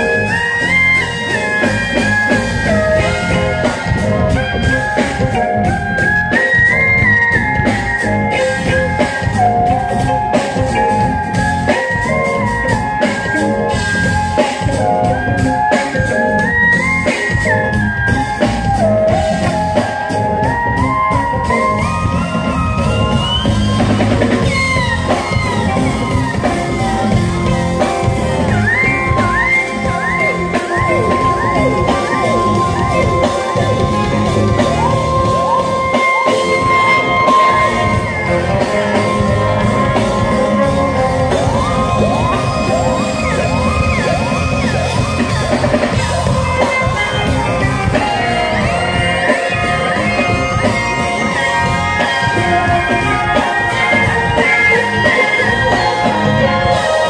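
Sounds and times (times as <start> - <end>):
live funk band playing: 0.0 - 57.0.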